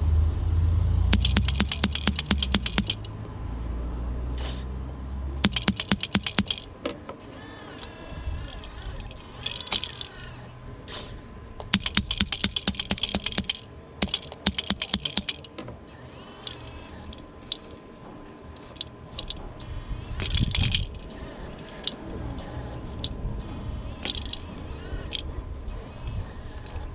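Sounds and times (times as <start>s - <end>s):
small motors whining: 0.0s - 26.9s
model excavator hammer chattering: 1.1s - 26.9s.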